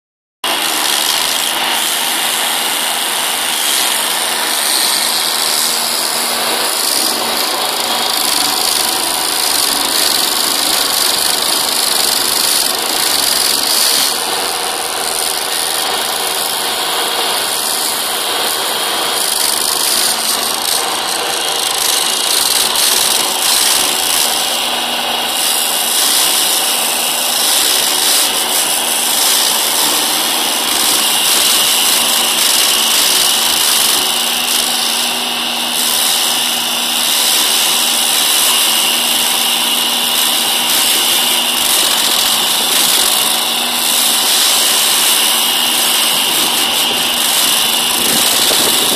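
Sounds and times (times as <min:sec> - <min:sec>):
excavator diesel engine: 0:00.4 - 0:48.9
stump grinder running: 0:00.4 - 0:48.9.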